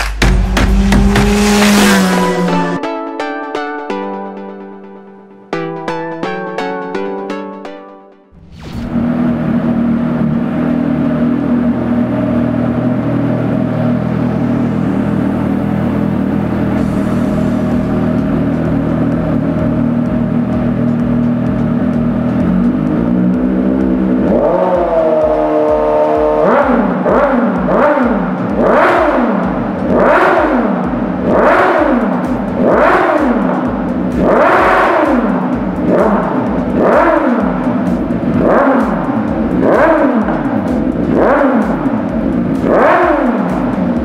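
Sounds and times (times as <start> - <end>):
motorcycle engine revving: 0.0 - 2.8, 8.3 - 44.0.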